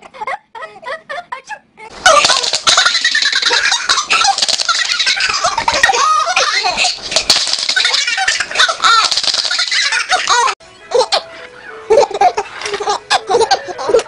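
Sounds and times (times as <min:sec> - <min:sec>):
baby laughing: 0:00.0 - 0:14.0.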